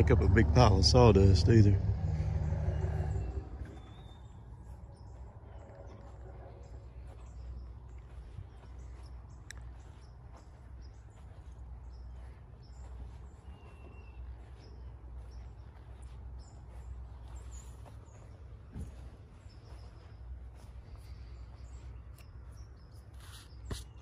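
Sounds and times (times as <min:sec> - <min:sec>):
steady low rumble: 0:00.0 - 0:23.1
small birds chirping: 0:00.0 - 0:24.0.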